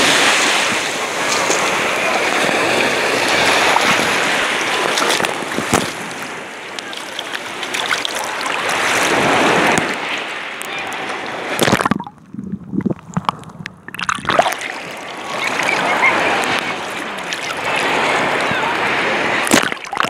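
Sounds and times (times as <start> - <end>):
seawater sloshing and splashing: 0.0 - 20.0.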